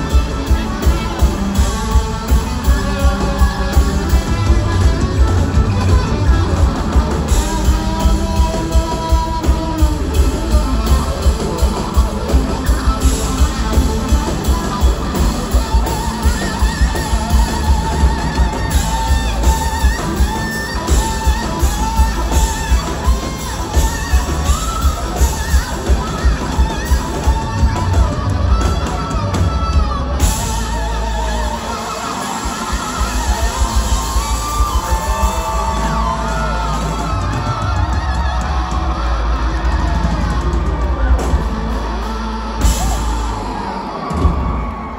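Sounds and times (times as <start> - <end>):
electric guitar bent notes: 0.0 - 44.9
live rock band: 0.0 - 44.9.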